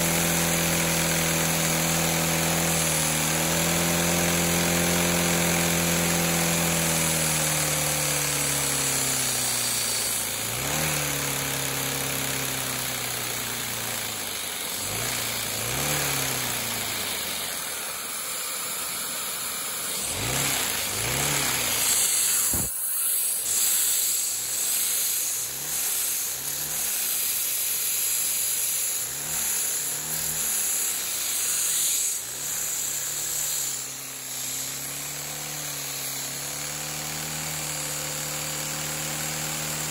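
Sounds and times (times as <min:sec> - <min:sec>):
small engine whirring and revving: 0:00.0 - 0:39.9.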